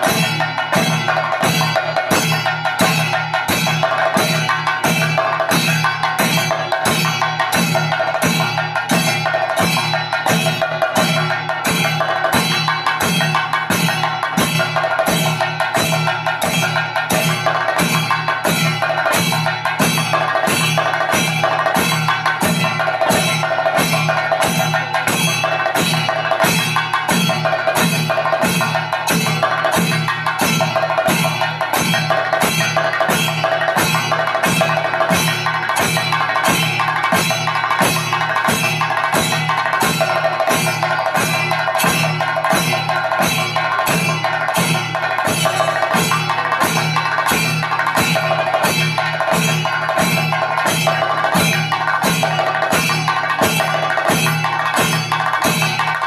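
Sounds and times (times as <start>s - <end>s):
drums played fast with sticks: 0.0s - 56.0s
hand cymbals clashing: 0.0s - 56.0s.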